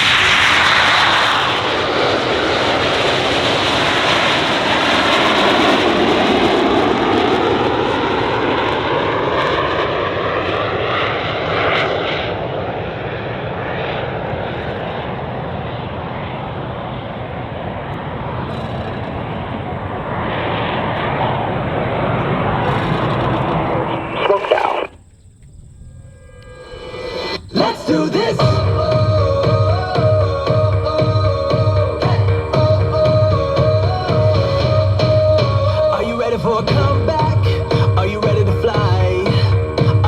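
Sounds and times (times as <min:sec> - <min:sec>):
jets flying overhead: 0:00.0 - 0:40.0.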